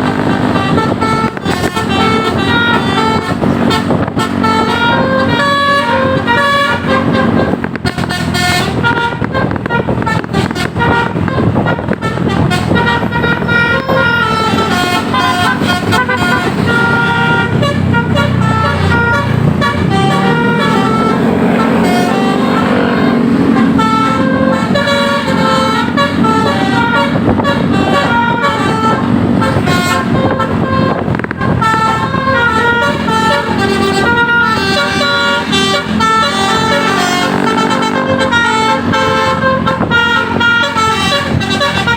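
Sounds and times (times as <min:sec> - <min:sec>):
bus engine rumble: 0:00.0 - 0:41.9
multi-tone air horns melody: 0:00.0 - 0:41.9.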